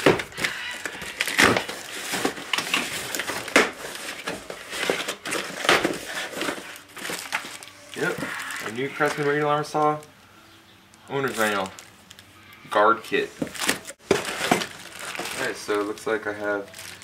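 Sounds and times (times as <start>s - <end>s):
cardboard rustling and scraping: 0.0s - 10.0s, 13.1s - 17.0s.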